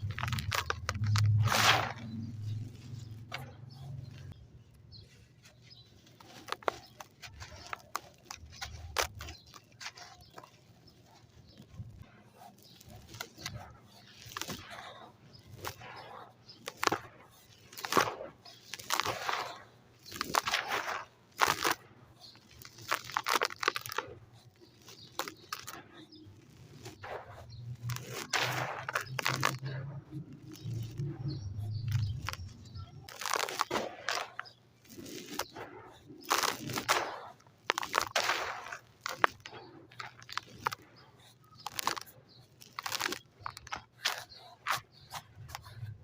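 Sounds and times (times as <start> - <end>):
dry sand crunching: 0.0 - 46.0.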